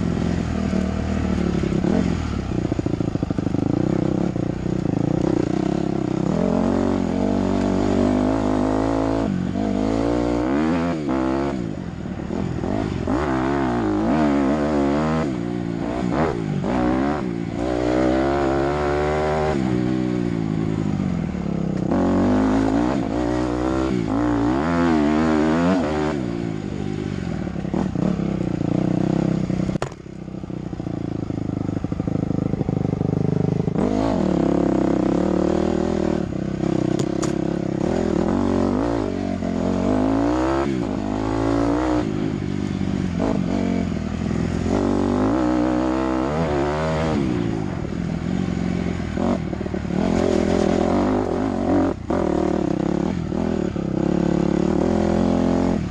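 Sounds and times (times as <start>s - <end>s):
dirt bike engine revving: 0.0s - 30.0s, 31.8s - 55.9s.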